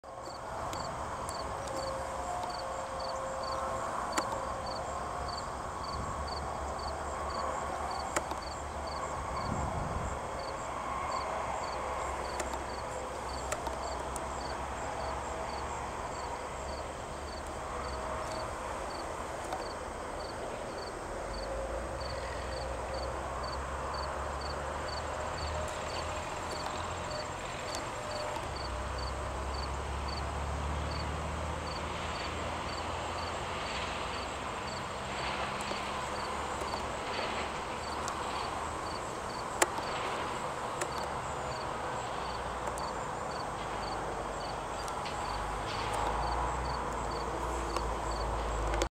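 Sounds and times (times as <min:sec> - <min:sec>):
insects chirping: 0:00.1 - 0:48.9.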